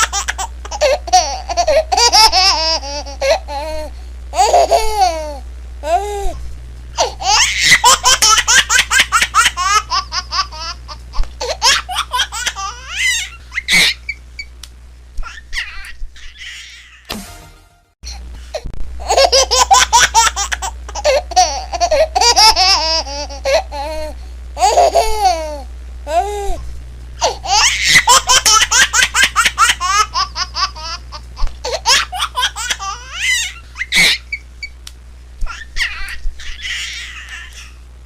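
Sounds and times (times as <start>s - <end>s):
baby laughing and squealing: 0.0s - 6.4s, 7.0s - 14.5s, 15.2s - 17.1s, 19.0s - 26.6s, 27.2s - 34.7s, 35.4s - 37.8s.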